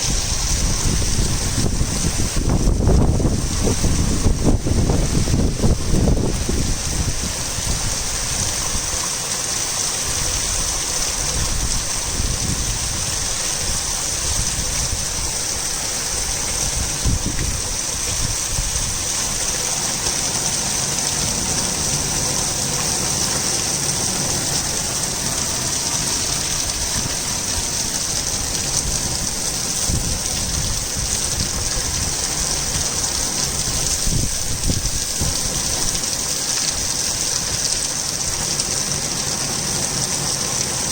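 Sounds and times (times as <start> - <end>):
torrential rain pouring: 0.0 - 40.9.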